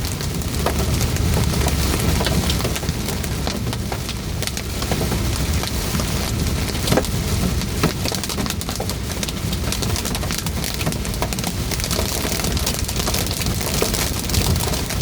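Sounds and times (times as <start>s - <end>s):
car driving rumble: 0.0s - 15.0s
heavy rain pelting a car: 0.0s - 15.0s.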